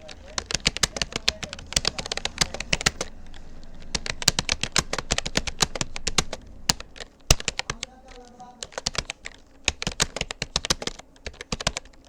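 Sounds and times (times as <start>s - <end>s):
keyboard key clicks: 0.0s - 12.0s.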